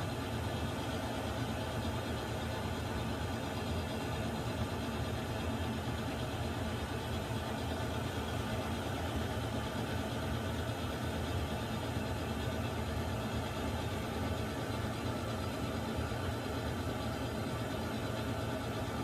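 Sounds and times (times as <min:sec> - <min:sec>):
water heater rumbling and hissing: 0:00.0 - 0:19.0.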